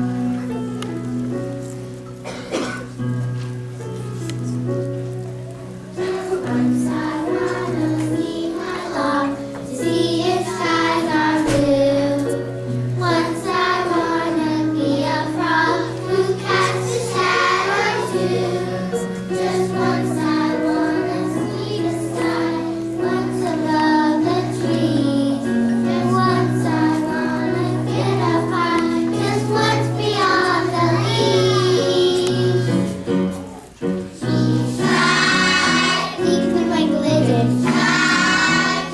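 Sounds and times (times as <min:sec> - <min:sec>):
instrumental backing music: 0:00.0 - 0:38.9
children's choir singing: 0:02.2 - 0:02.8, 0:05.8 - 0:38.9.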